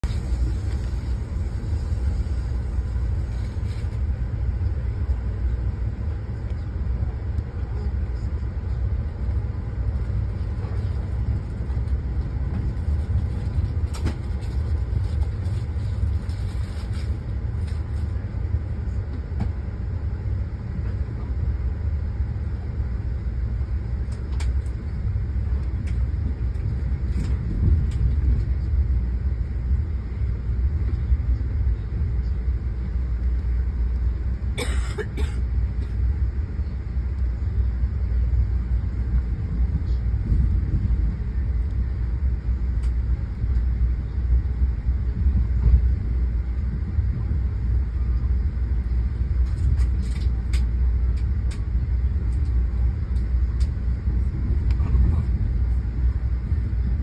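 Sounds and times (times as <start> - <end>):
low rumble of train running: 0.0 - 57.0.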